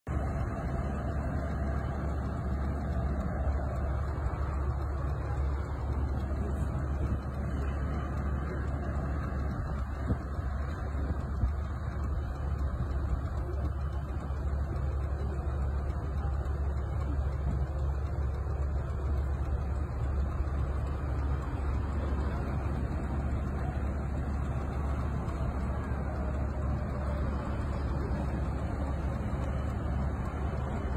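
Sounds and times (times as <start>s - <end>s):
vehicle engines idling: 0.0s - 30.9s.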